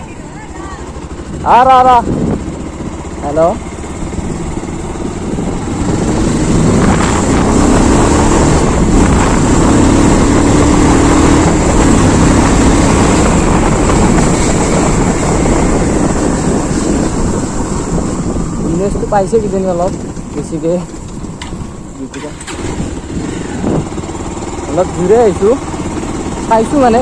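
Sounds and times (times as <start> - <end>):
motorbike engine running: 0.0 - 27.0
wind buffeting microphone: 0.0 - 27.0.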